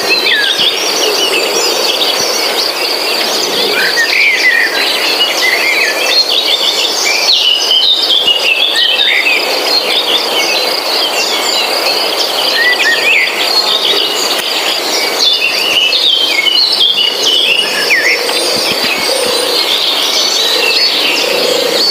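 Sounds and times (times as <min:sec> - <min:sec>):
high insect drone: 0:00.0 - 0:21.9
small birds chirping: 0:00.0 - 0:21.9.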